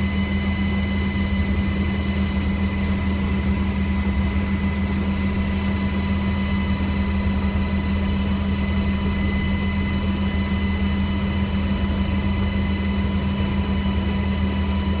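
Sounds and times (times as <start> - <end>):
helicopter drone: 0.0 - 15.0
thin steady whine: 0.0 - 15.0.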